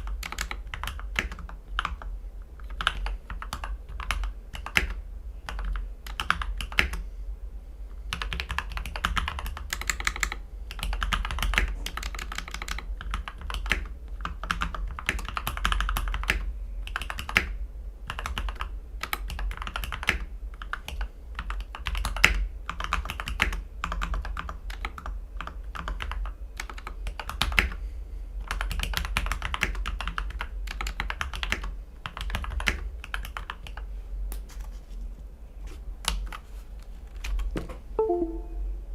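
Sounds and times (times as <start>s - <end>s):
typing on mechanical keyboard: 0.0s - 7.0s, 8.1s - 27.8s, 28.4s - 33.9s.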